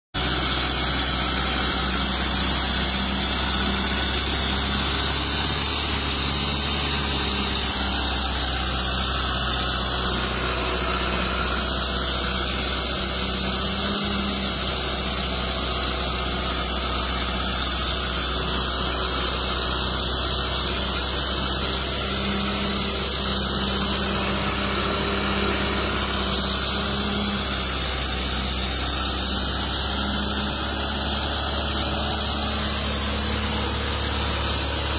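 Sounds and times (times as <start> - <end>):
bulldozer engine: 0.2 - 34.9
vehicle engines in mud: 0.2 - 34.9.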